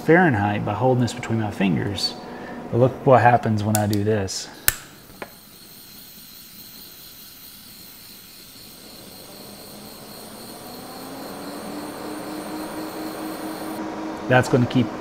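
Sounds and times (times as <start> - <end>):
cooling fans spinning up: 0.0 - 15.0.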